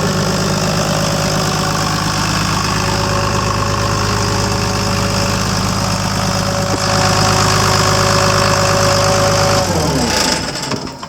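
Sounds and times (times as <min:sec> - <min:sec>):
diesel engine running and shutting off: 0:00.0 - 0:11.0.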